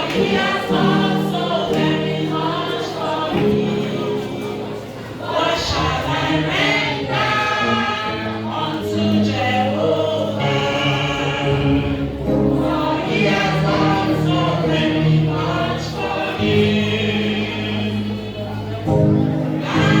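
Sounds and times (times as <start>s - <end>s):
choir singing gospel song: 0.0s - 20.0s
steady bass accompaniment: 0.0s - 20.0s.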